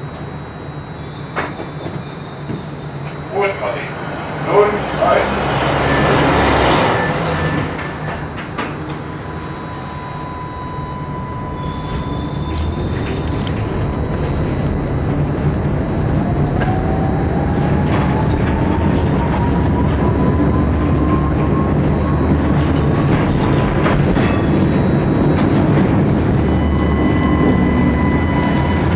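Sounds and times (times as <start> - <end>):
tram motor whine: 0.0 - 28.9.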